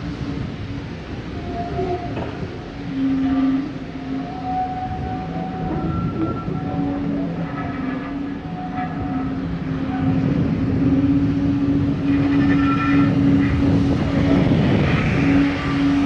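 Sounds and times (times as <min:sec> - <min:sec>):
locomotive rumbling: 0:00.0 - 0:16.0.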